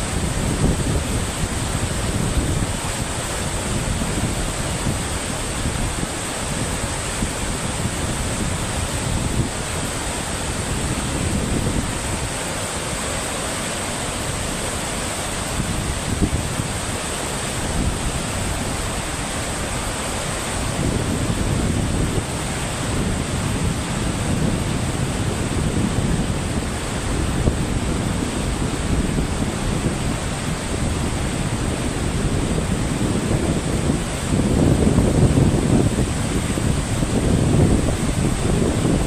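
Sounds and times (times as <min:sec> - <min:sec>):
steady rushing noise: 0:00.0 - 0:39.0
wind buffeting microphone: 0:00.0 - 0:39.0.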